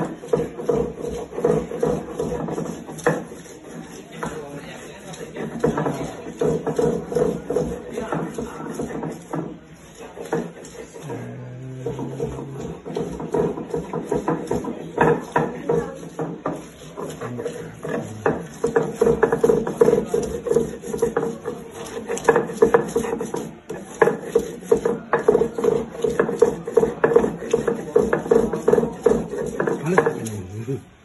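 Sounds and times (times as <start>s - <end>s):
stone pestle grinding on stone: 0.0s - 31.0s.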